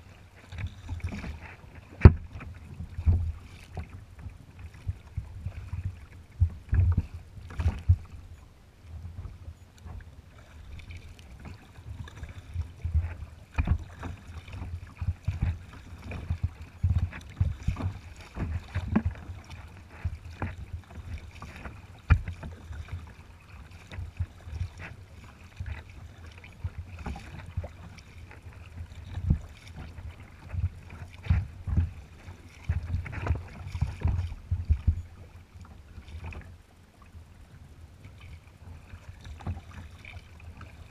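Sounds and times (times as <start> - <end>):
water slapping against kayak hull: 0.0 - 36.6, 38.0 - 40.9
wind rumble on microphone: 0.0 - 40.9.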